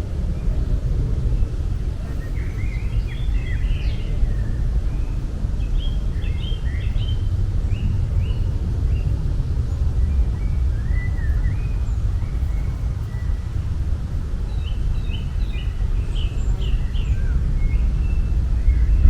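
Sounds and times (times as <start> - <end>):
steady low rumble: 0.0 - 19.0
small birds chirping: 1.4 - 13.6, 14.2 - 19.0.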